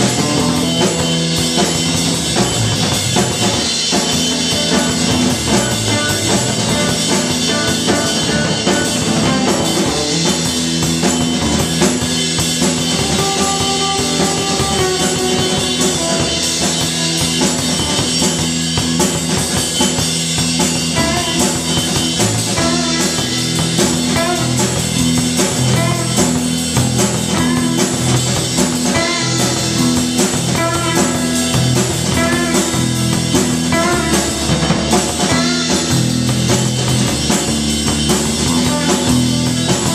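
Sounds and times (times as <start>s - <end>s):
drums and cymbals: 0.0s - 39.9s
rock band playing live: 0.0s - 39.9s.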